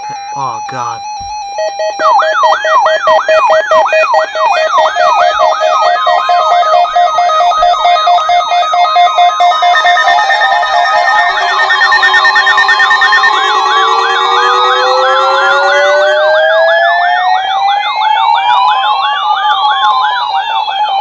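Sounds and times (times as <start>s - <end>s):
falling siren-like chirp: 0.0s - 21.0s
pulsing beeps: 0.0s - 21.0s.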